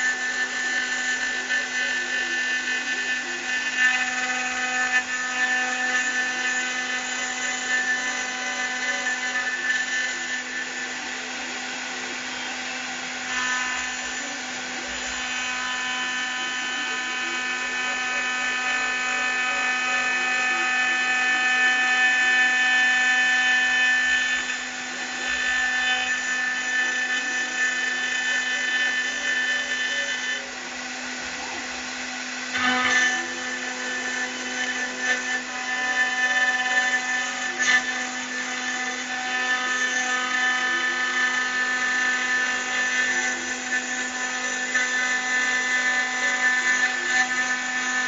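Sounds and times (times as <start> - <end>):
milling spindle whine: 0.0 - 48.0.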